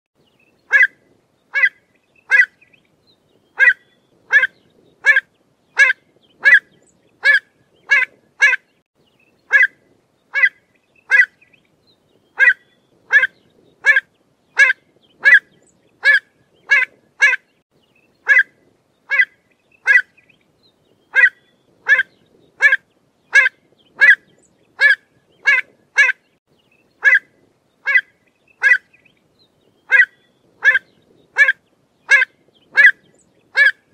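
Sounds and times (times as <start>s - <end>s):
bird sharp calls: 0.6s - 8.8s, 9.4s - 11.6s, 12.2s - 33.9s.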